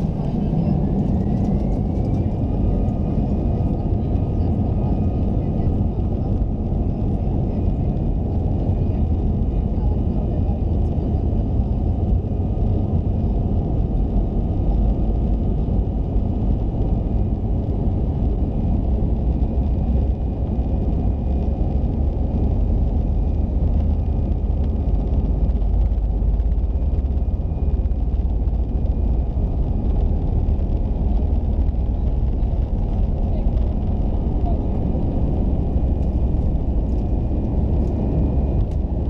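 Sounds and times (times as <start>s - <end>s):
low rumble of aircraft engines: 0.0s - 39.0s.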